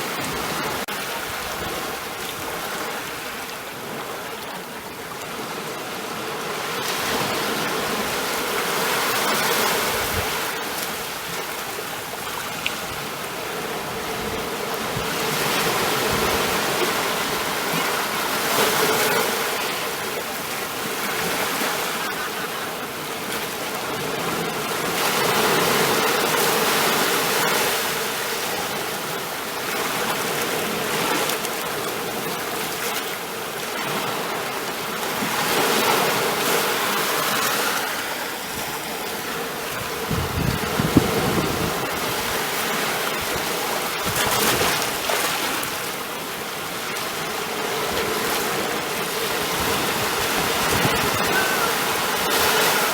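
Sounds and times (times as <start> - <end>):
ocean waves washing onto shore: 0.0 - 52.9.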